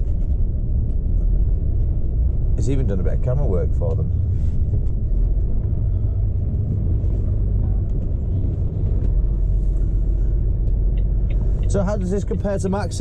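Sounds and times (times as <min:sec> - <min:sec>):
diesel engine: 0:00.0 - 0:13.0
road rumble: 0:00.0 - 0:13.0.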